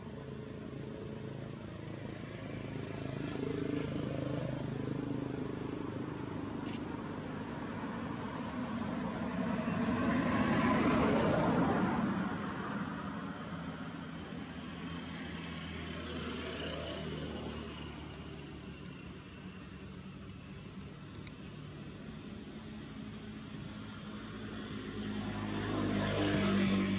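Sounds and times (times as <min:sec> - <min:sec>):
vehicle engine passing: 0:01.6 - 0:20.2, 0:22.6 - 0:26.9.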